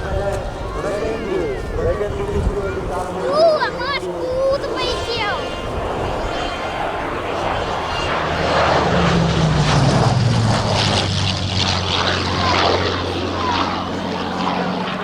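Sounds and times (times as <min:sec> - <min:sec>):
propeller plane engine in flight: 0:00.0 - 0:15.0.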